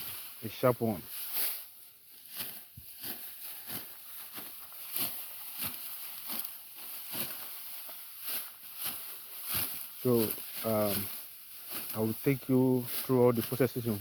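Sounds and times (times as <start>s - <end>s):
sickle cutting dry rice stalks: 0.0s - 14.0s.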